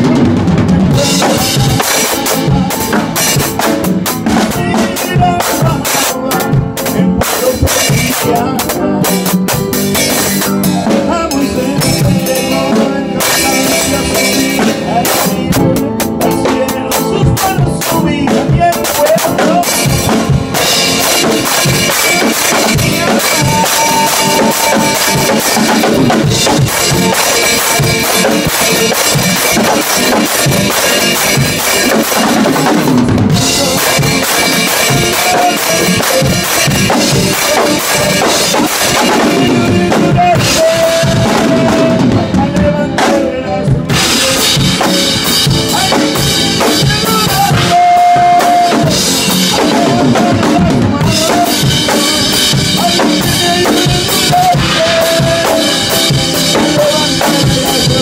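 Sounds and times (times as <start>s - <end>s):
drum kit played hard: 0.0s - 58.0s.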